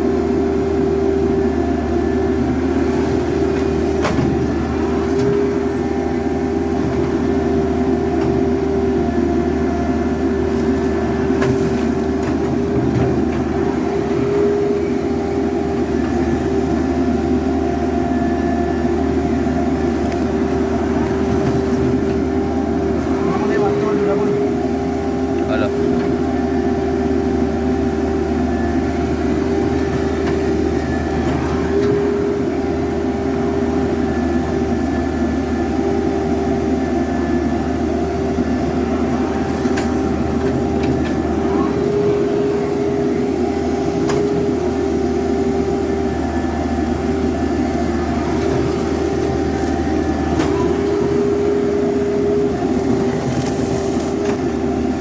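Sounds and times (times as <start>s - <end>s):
diesel engine humming with whine: 0.0s - 55.0s.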